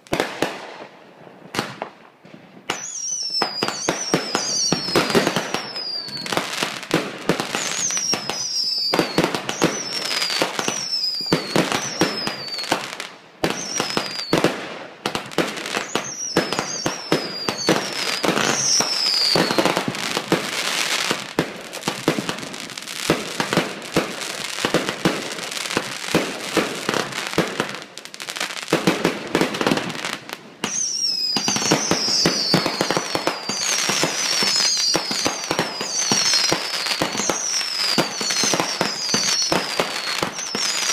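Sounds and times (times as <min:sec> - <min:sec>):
fireworks bangs and crackling: 0:00.0 - 0:40.9
fireworks whistles falling in pitch: 0:02.6 - 0:14.6, 0:15.2 - 0:40.9.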